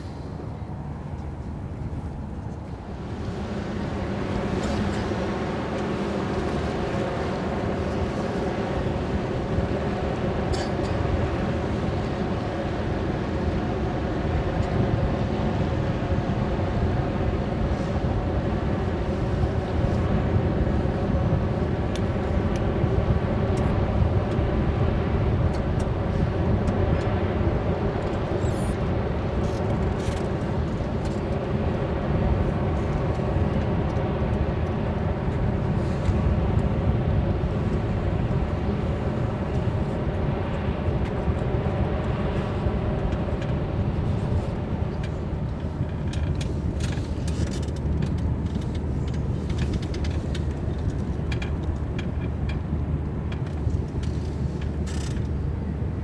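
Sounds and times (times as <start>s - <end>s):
ship machinery drone: 0.0s - 56.0s.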